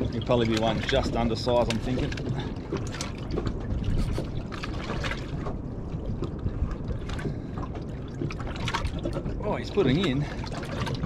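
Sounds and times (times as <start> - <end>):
steady low rumble: 0.0 - 11.0
water slapping against boat hull: 0.0 - 11.0.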